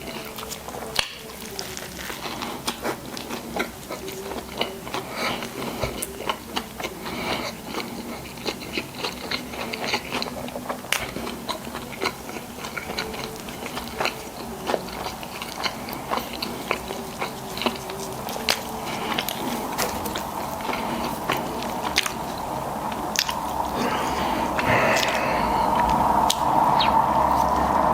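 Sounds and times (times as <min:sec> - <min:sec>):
wet mouth clicks: 0:00.0 - 0:27.7
crunchy bites: 0:00.0 - 0:27.8
close chewing food: 0:00.0 - 0:27.9.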